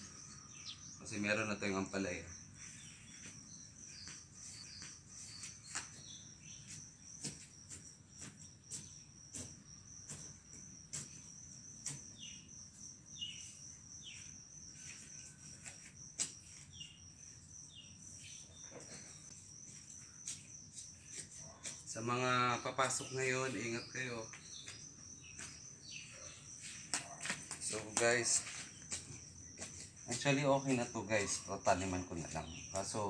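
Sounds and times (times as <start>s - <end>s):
high-pitched insect trill: 0.0s - 33.0s.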